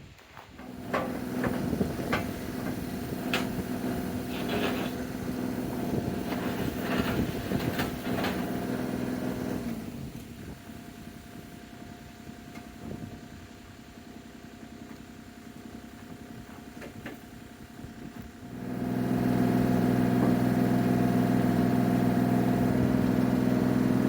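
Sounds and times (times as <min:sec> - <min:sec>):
diesel excavator engine running: 0:00.5 - 0:24.0.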